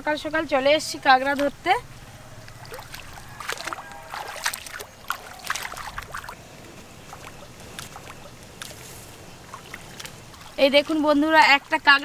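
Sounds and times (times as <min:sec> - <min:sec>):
feet splashing through floodwater: 0:02.4 - 0:12.0.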